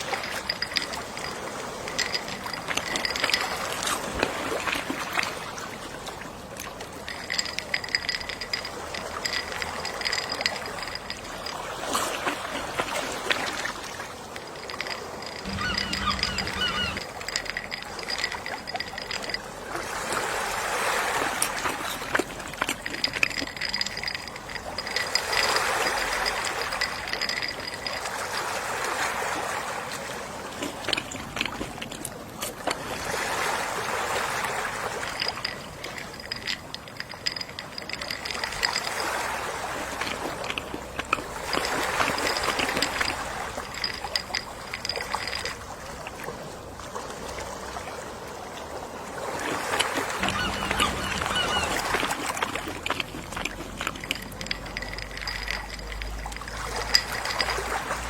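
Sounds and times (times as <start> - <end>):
gentle sea waves: 0.0 - 58.0.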